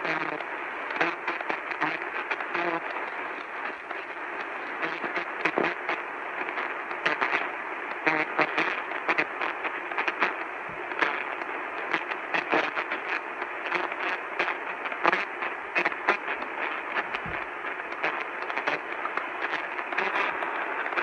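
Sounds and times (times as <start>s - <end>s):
crackles and pops: 0.0s - 21.0s
radio static hiss: 0.0s - 21.0s.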